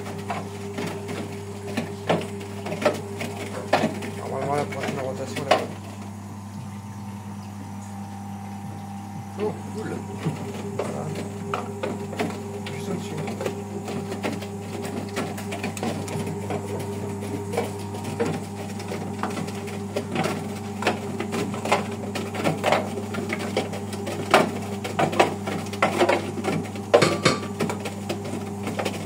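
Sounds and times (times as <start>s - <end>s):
washing machine motor hum: 0.0s - 29.0s
washing machine drum knocking: 1.1s - 5.8s, 8.5s - 28.2s.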